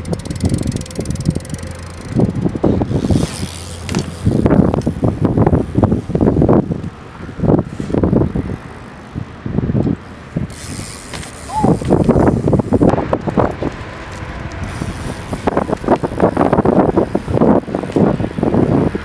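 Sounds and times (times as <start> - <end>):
bike rear hubs clicking: 0.0 - 9.2, 9.8 - 19.0
wind gusts on microphone: 0.0 - 19.0.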